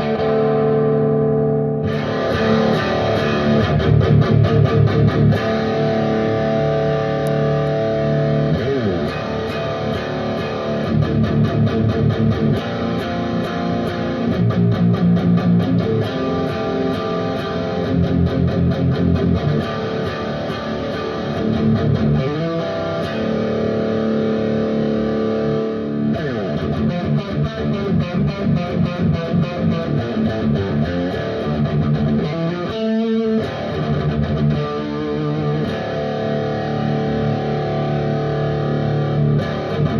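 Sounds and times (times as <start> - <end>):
electric guitar chords and riffs: 0.0 - 39.9.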